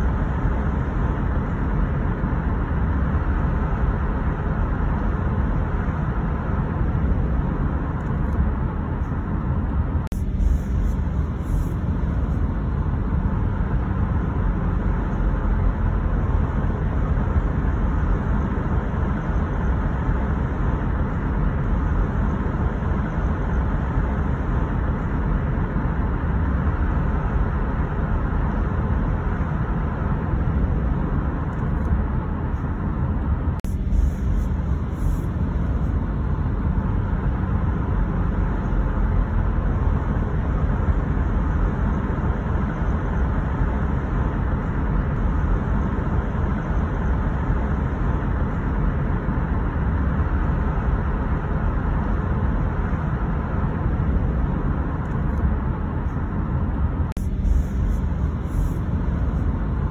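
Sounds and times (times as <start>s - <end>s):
car tyre and engine rumble: 0.0s - 59.9s.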